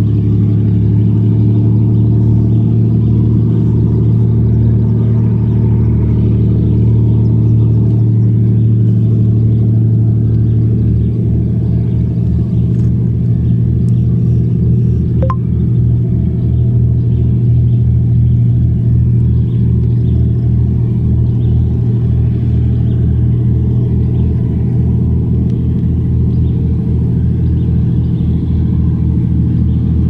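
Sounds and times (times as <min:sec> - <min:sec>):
ferry engines droning: 0:00.0 - 0:30.0.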